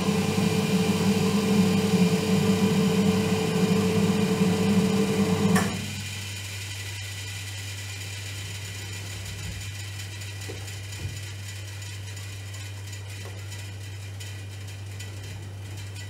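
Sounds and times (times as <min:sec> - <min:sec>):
water heater hum and hiss: 0:00.0 - 0:16.0.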